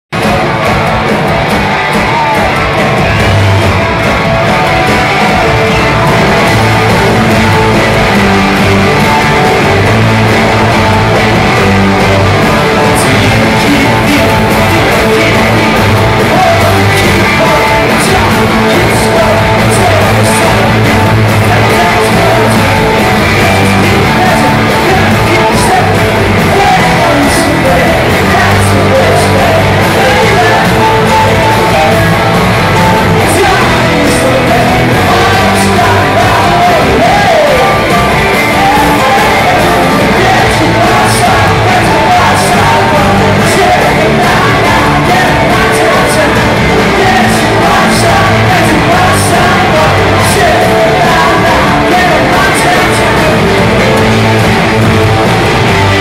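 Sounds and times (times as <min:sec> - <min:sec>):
live rock band playing loud: 0:00.1 - 0:56.0
person singing: 0:00.2 - 0:56.0.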